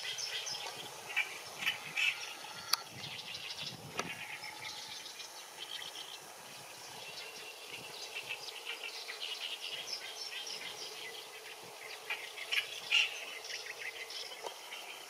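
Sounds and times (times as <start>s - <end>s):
birds chirping and singing: 0.0s - 15.0s
faint background hiss: 0.0s - 15.0s.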